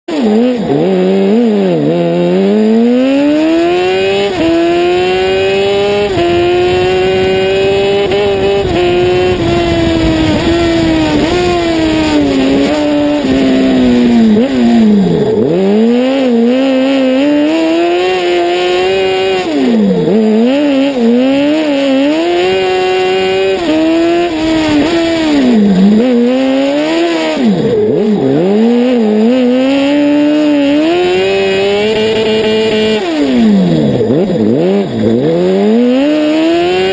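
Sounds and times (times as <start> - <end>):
racing engine revving: 0.1 - 36.9.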